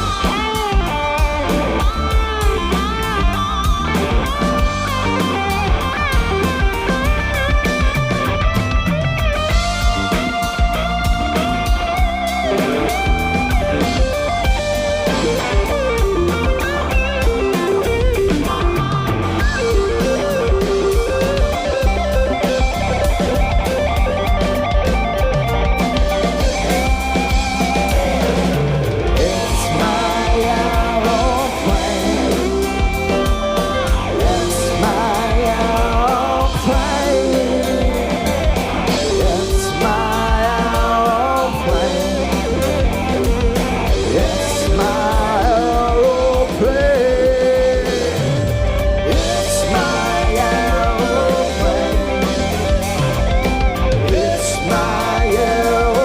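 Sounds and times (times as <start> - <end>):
live rock band jamming: 0.0 - 56.0.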